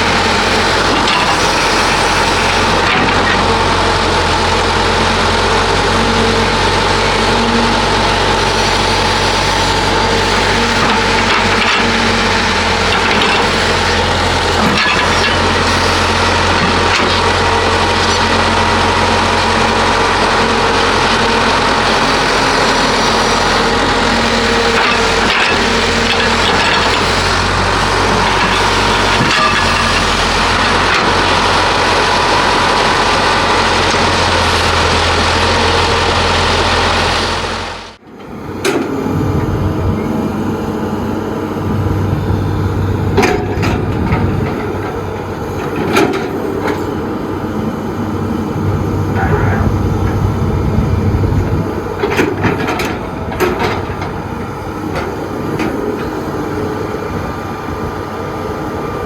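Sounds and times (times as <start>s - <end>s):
diesel construction machinery running: 0.0s - 59.0s.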